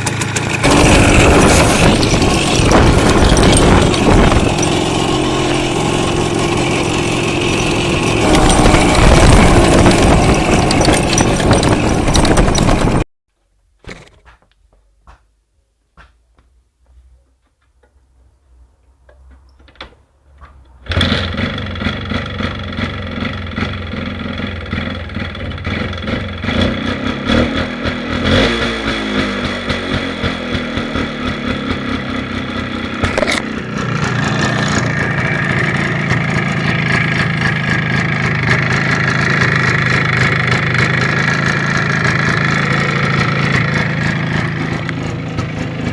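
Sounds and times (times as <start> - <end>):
motorcycle engine running: 0.0 - 13.0, 20.9 - 45.9.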